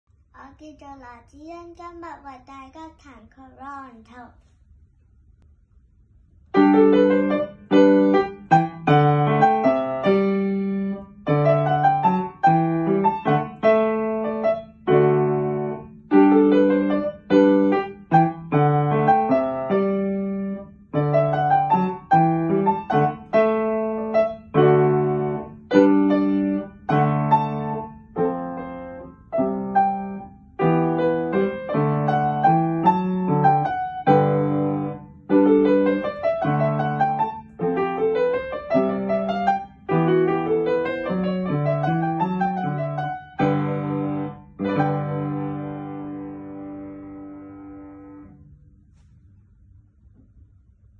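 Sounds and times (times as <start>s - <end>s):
upright piano piece: 6.5s - 48.6s.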